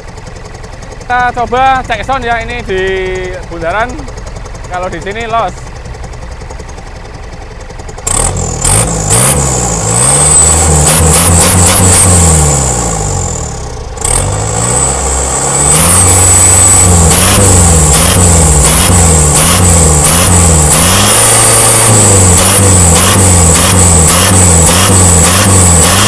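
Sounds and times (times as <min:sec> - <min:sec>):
truck engine revving: 0:00.7 - 0:06.6, 0:07.8 - 0:26.0.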